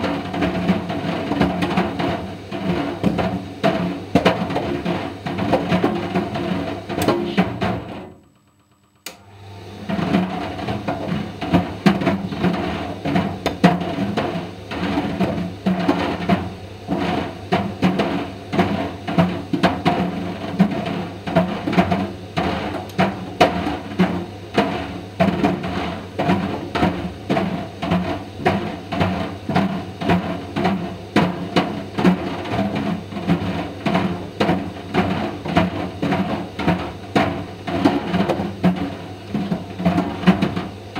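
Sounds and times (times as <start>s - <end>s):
dryer ball knocking: 0.0s - 8.2s, 9.9s - 40.8s.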